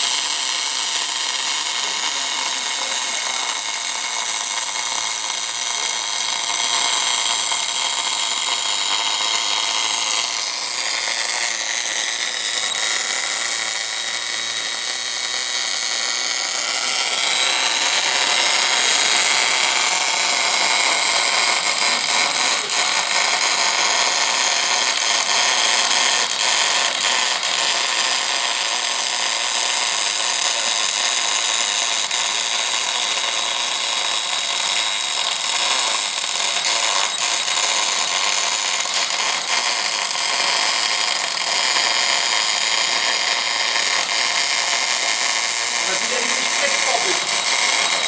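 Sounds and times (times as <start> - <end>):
welding arc frying hiss: 0.0 - 48.0.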